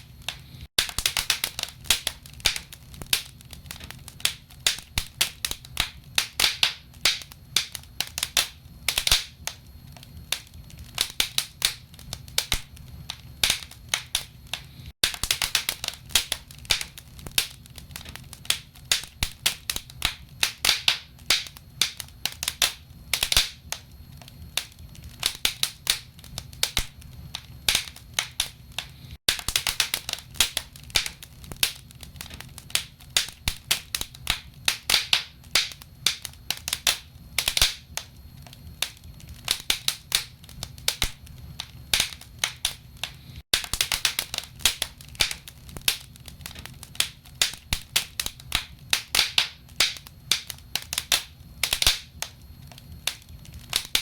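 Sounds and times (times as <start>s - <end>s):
logs crackling in a fireplace: 0.0s - 54.0s.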